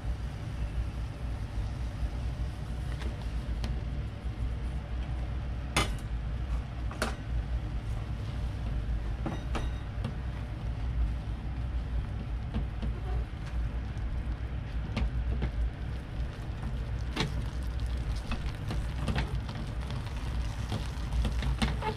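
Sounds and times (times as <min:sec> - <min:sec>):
steady low rumble: 0:00.0 - 0:21.9.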